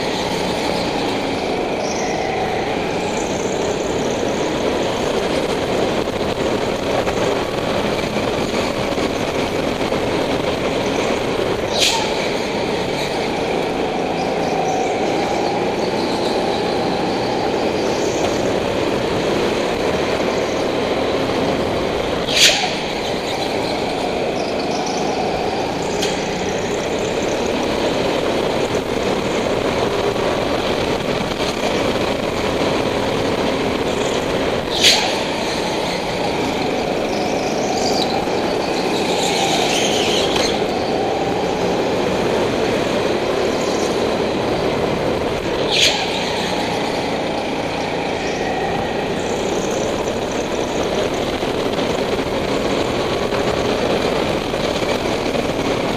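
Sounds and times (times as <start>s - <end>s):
go-kart engine: 0.0s - 55.9s.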